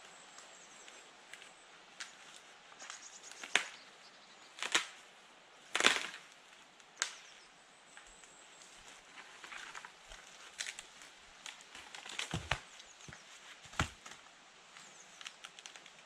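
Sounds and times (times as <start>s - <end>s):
twigs crackling: 0.1s - 16.0s
dry branches snapping: 0.8s - 3.9s, 4.5s - 7.4s, 8.0s - 14.3s, 15.1s - 16.0s.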